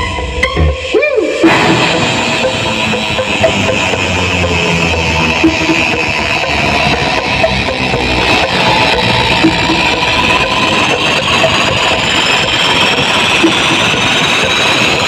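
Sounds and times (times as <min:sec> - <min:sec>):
loud music over sound system: 0:00.0 - 0:15.0.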